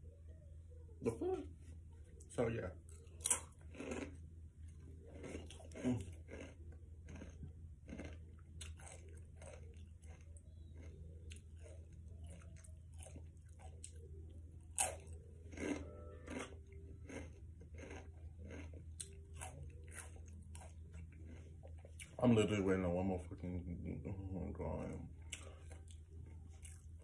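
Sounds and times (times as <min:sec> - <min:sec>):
low steady hum: 0:00.0 - 0:27.0
chewing crunchy chips: 0:02.2 - 0:22.3, 0:24.8 - 0:27.0.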